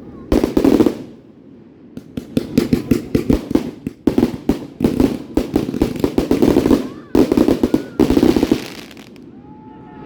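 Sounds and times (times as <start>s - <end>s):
fireworks crackling and popping: 0.3s - 1.2s, 2.0s - 9.2s.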